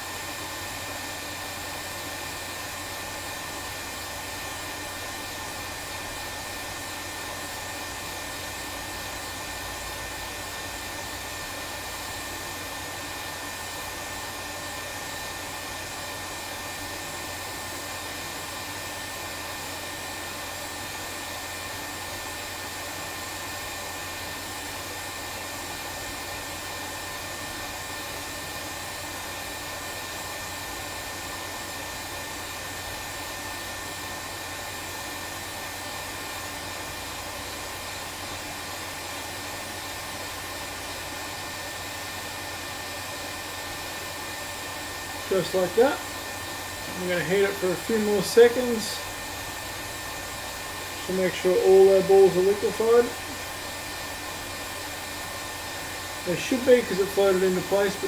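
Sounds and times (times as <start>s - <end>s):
hot air blower hissing: 0.0s - 58.0s.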